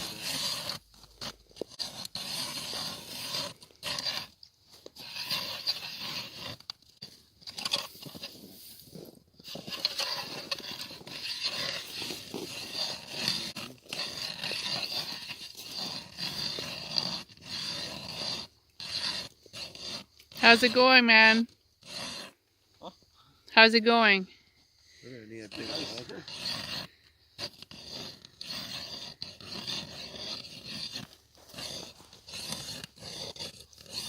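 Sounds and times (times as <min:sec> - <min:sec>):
ice auger rasping scrape: 0:00.0 - 0:22.4, 0:25.1 - 0:34.0.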